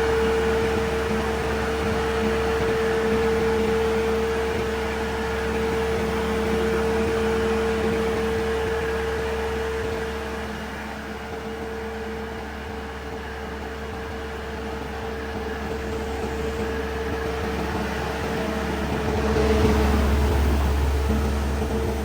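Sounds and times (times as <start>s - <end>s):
machine hum with whine: 0.0s - 22.0s.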